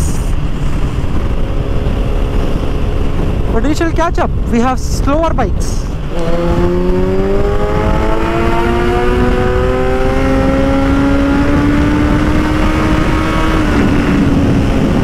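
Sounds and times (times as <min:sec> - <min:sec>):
motorcycle engine accelerating: 0:00.0 - 0:03.7, 0:05.8 - 0:15.0
wind on microphone: 0:00.0 - 0:15.0.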